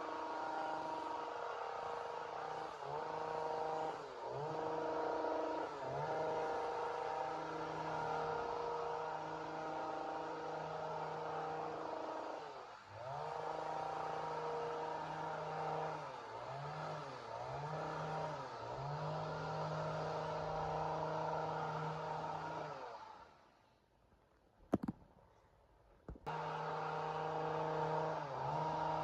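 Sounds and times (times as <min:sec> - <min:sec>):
chainsaw engine at high revs: 0:00.0 - 0:23.4, 0:26.3 - 0:29.0.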